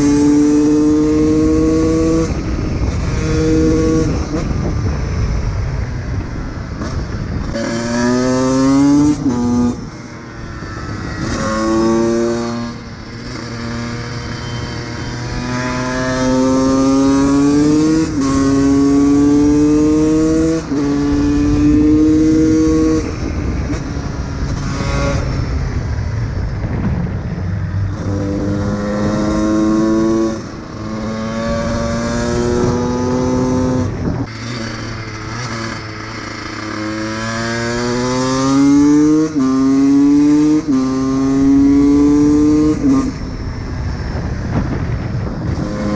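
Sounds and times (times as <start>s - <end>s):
two-stroke engine accelerating: 0.0s - 45.9s.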